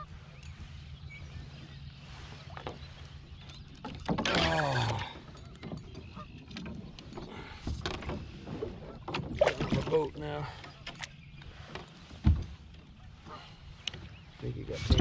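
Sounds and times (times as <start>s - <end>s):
water sloshing and swirling: 0.0s - 15.0s.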